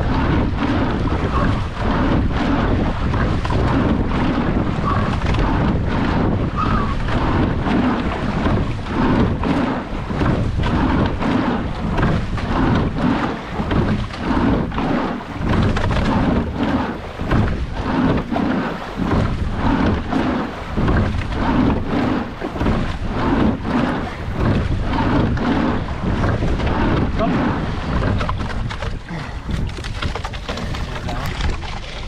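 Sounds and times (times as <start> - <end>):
water rushing: 0.0 - 32.0
wind on microphone: 0.0 - 32.0.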